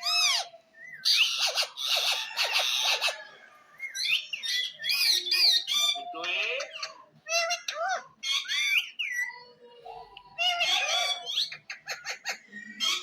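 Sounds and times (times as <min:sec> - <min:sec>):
parakeet squawking: 0:00.0 - 0:03.3, 0:04.0 - 0:09.5, 0:10.4 - 0:13.0.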